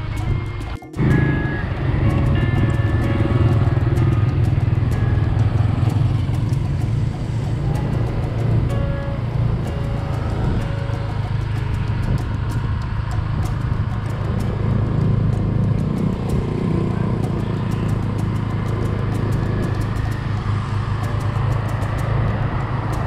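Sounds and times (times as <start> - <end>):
motor scooter cruising: 0.0 - 23.0.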